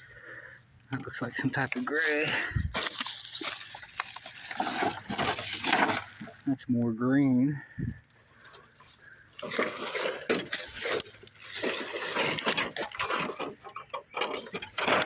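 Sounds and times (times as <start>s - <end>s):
hands scraping soil and grass: 1.0s - 6.6s, 8.1s - 15.0s.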